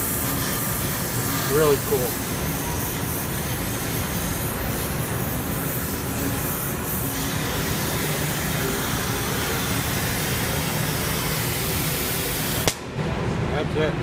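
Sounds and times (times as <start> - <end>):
torch flame hissing: 0.0 - 12.9.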